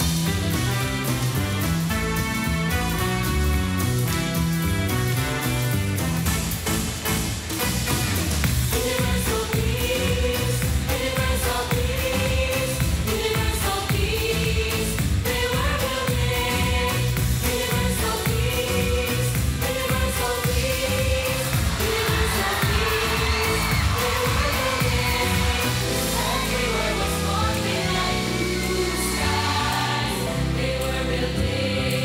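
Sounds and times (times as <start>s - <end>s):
pop backing music with drums: 0.0s - 32.0s.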